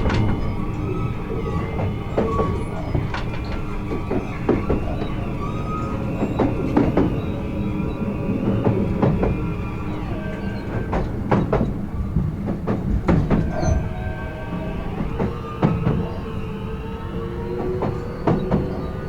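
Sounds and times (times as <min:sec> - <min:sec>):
faint whining tones: 0:00.0 - 0:19.0
wheel and track rumble: 0:00.0 - 0:19.0
wheels clicking over rail joints: 0:00.0 - 0:19.0.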